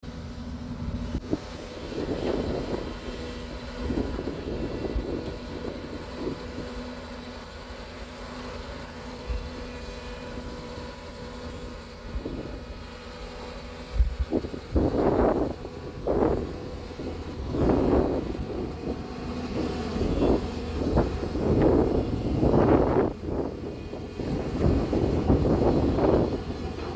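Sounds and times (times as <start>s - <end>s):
excavator diesel engine droning: 0.0s - 26.9s.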